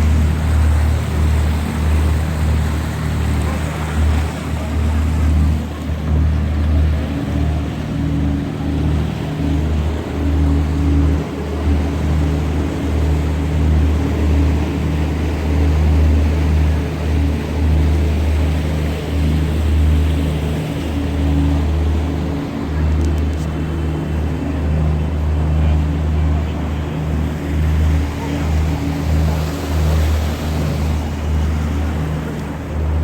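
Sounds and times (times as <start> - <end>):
boat engine humming: 0.0 - 33.0
water rushing: 0.0 - 33.0.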